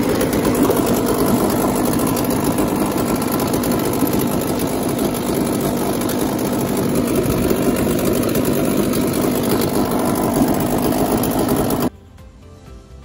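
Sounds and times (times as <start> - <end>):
outboard engine idling: 0.0 - 11.9.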